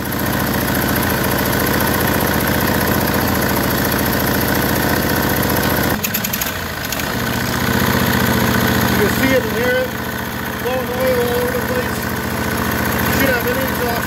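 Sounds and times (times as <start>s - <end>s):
engine idling and chuffing: 0.0s - 14.0s.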